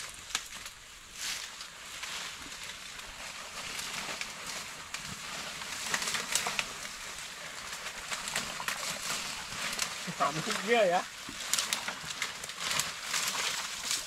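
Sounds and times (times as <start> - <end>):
crackles and snaps: 0.0 - 14.0
rustling of dry vegetation: 0.0 - 14.0.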